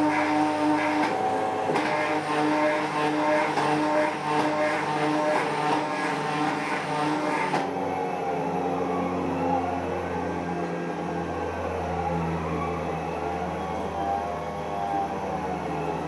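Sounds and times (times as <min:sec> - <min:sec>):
machine motors whining: 0:00.0 - 0:16.0.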